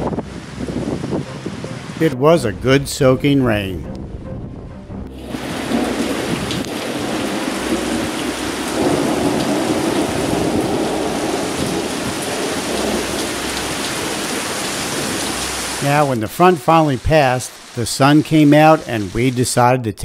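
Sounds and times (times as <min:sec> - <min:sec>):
rain pouring down: 0:00.0 - 0:02.2, 0:05.1 - 0:19.8.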